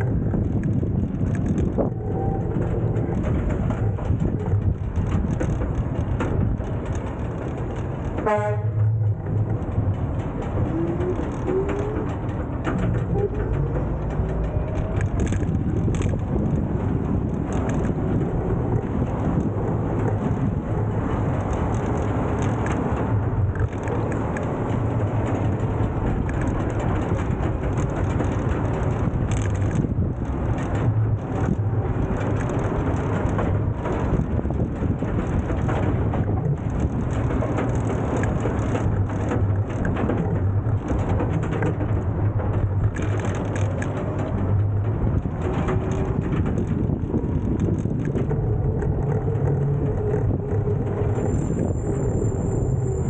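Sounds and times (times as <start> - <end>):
scooter rattling clicks: 0.0 - 51.8
scooter tyre noise on pavement: 0.0 - 53.0
wind on microphone: 0.0 - 53.0.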